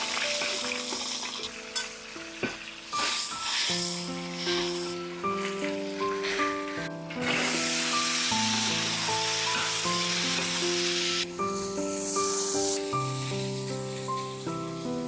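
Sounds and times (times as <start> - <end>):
background music of held notes: 0.0 - 15.0
food sizzling in a pan: 0.0 - 15.0.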